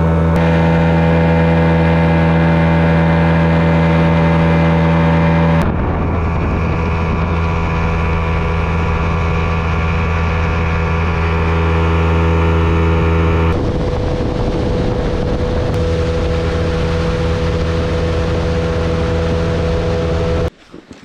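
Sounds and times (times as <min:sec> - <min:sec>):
boat motor running: 0:00.0 - 0:20.5.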